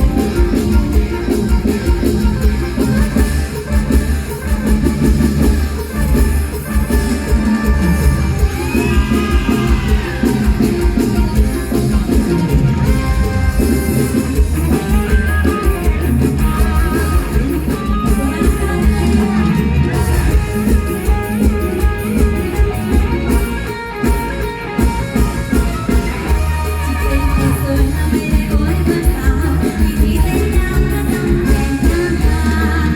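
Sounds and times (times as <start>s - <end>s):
bass: 0.0s - 32.9s
drum kit: 0.0s - 32.9s
plucked string lead melody: 0.0s - 32.9s.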